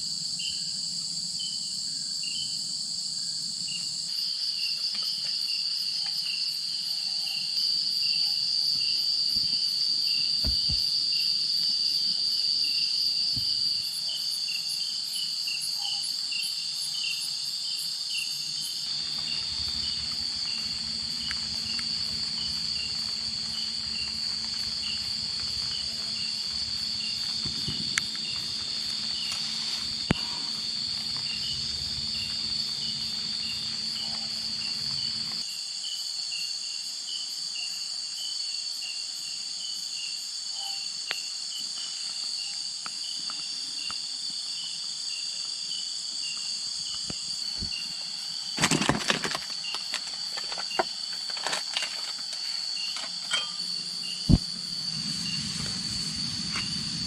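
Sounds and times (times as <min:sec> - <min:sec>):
night insects chorusing: 0:00.0 - 0:57.0.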